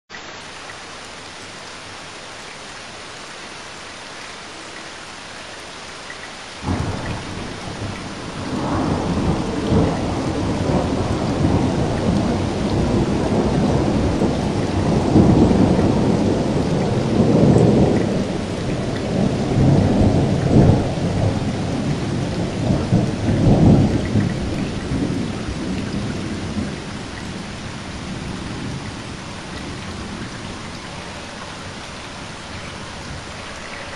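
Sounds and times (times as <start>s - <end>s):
heavy rain falling: 0.1s - 33.9s
thunder rumbling: 6.6s - 33.9s.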